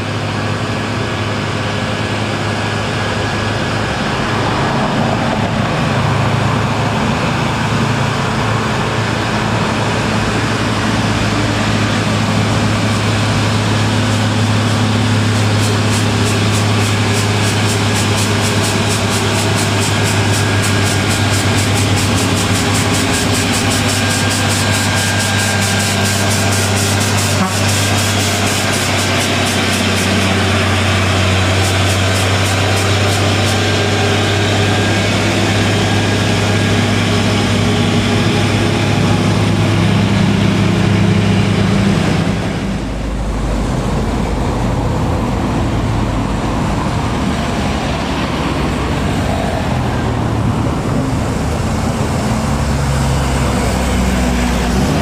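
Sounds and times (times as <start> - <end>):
deeper diesel engine climbing: 0.0 - 55.0
diesel truck engine straining: 0.0 - 55.0.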